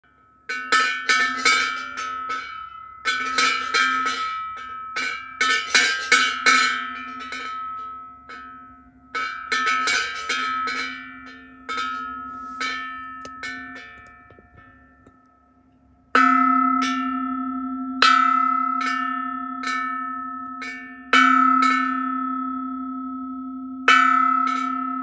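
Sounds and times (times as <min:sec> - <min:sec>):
temple bell struck with a stick: 0:00.5 - 0:15.2, 0:16.2 - 0:25.0.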